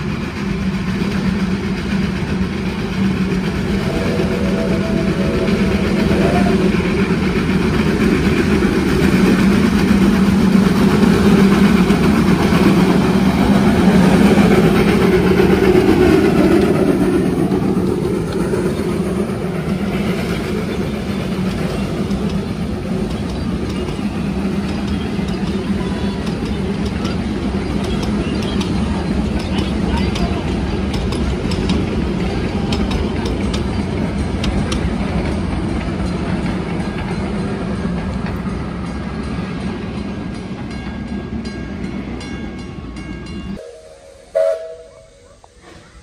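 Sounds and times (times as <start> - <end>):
carriages rolling on rails: 0.0 - 46.0
steam locomotive working past: 0.0 - 46.0.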